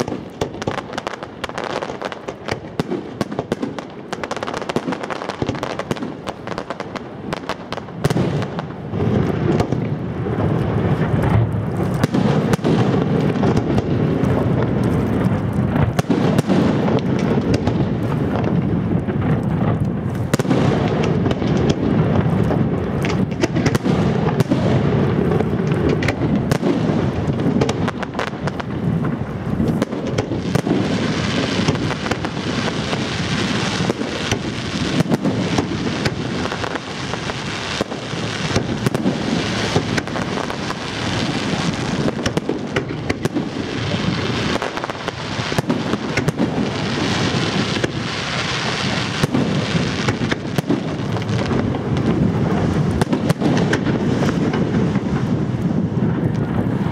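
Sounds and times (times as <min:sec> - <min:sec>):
fireworks bangs and crackling: 0:00.0 - 0:56.9.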